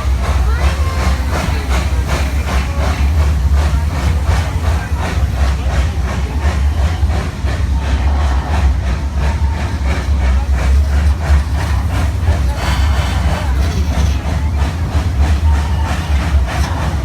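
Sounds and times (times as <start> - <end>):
train rumbling along: 0.0 - 17.0.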